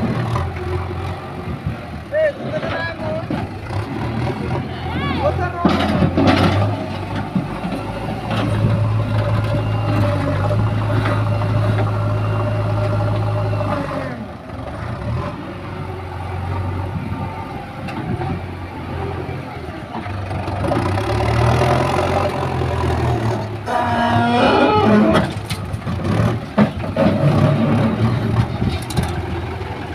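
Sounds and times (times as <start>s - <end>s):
diesel engine under load: 0.0s - 29.9s.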